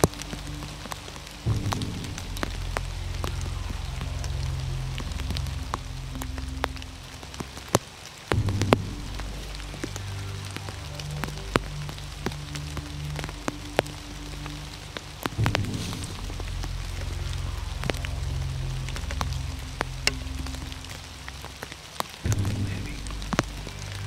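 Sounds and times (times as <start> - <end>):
low background music: 0.0 - 24.0
rain drops striking: 0.0 - 24.0.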